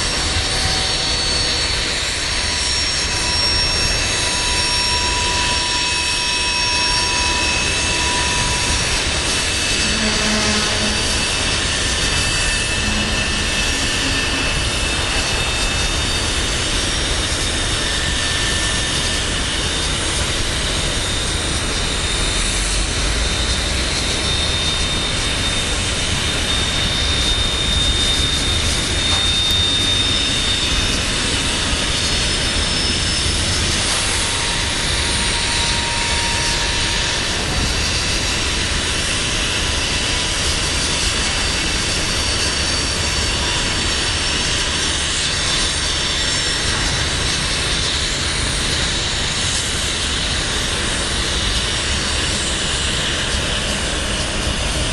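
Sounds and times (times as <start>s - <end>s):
high-pitched wheel squeals: 0.0s - 54.9s
train wheels rumbling on rail: 0.0s - 54.9s.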